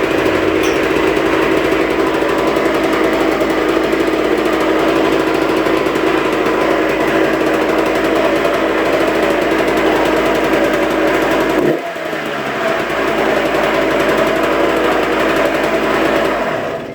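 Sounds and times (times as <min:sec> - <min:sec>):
engine grinding noise: 0:00.0 - 0:16.9
motorcycle engine running: 0:00.0 - 0:16.9.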